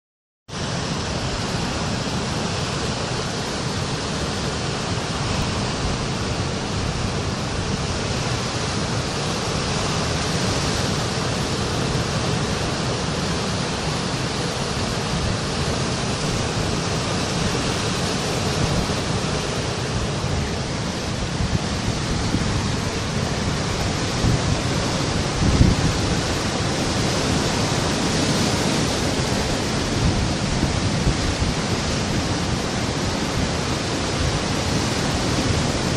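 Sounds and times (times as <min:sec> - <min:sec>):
surf breaking on rocky shore: 0:00.5 - 0:35.9.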